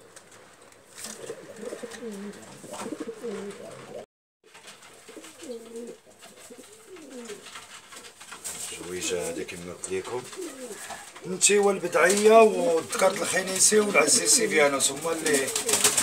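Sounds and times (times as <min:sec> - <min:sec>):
pigeons cooing: 0:00.0 - 0:04.1, 0:05.0 - 0:16.0.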